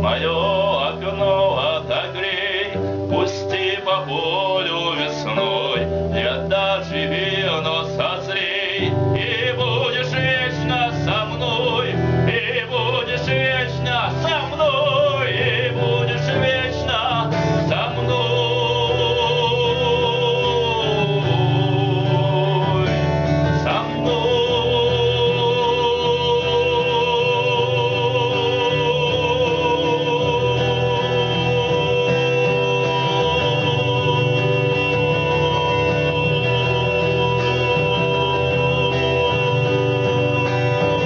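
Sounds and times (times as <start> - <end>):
man singing: 0.0 - 41.0.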